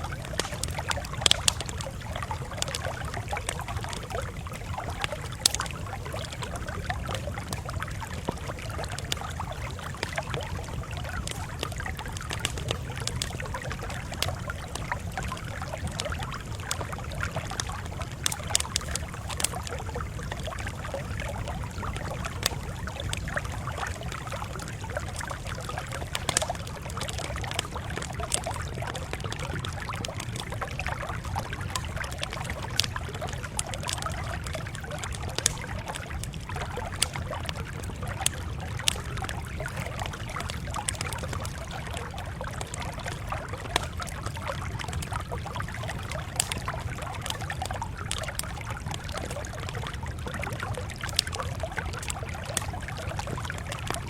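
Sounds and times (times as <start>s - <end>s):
campfire crackling: 0.0s - 54.0s
low rumble of burning: 0.0s - 54.0s.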